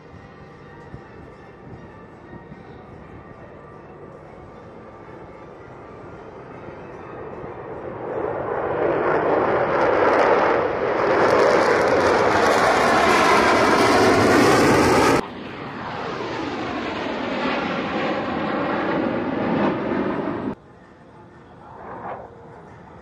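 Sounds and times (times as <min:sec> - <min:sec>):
jet engines passing overhead: 0:00.0 - 0:23.0.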